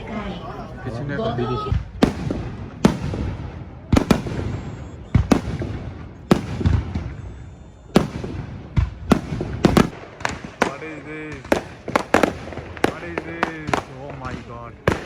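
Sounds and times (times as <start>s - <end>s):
fireworks bangs with echo: 1.7s - 15.0s.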